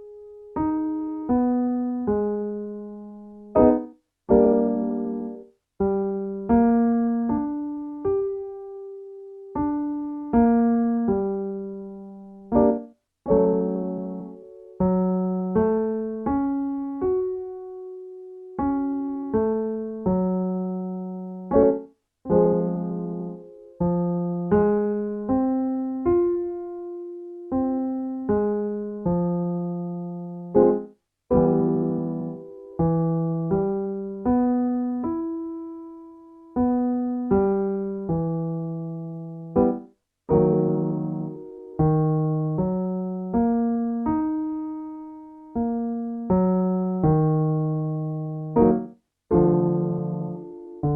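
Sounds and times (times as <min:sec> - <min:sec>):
piano vocal warmup pattern: 0:00.0 - 0:50.9.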